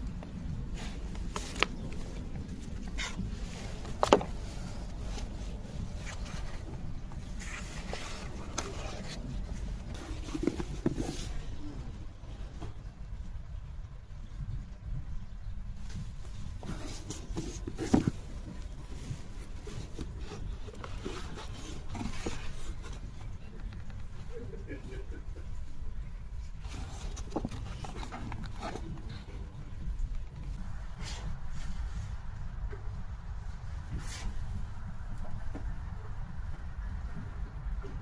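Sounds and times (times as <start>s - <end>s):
handling noise rubbing and scraping: 0.0s - 12.8s, 15.8s - 35.7s
faint rustles: 0.0s - 13.3s, 14.2s - 38.0s
indoor background hum: 0.0s - 38.0s.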